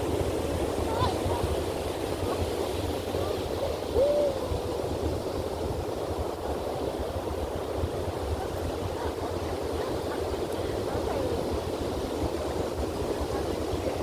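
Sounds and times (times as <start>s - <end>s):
surf washing on beach: 0.0s - 14.0s
wind on microphone: 0.0s - 14.0s.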